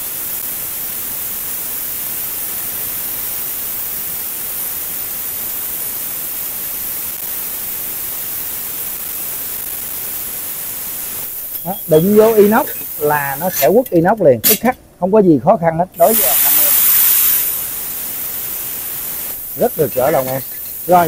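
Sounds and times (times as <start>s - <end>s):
plasma cutter hissing: 0.0s - 14.8s, 15.5s - 21.0s.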